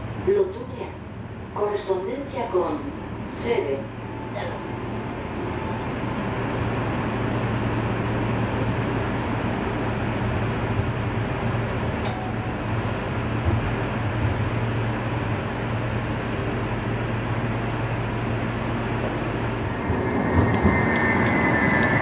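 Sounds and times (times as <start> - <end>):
tram interior rumble: 0.0 - 22.0.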